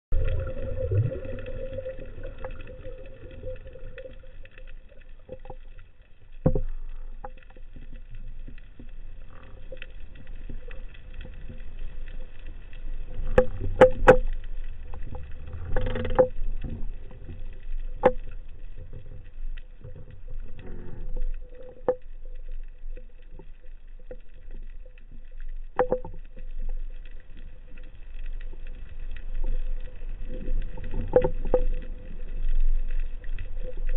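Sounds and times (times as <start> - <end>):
underwater rumbling wash: 0.1 - 33.9.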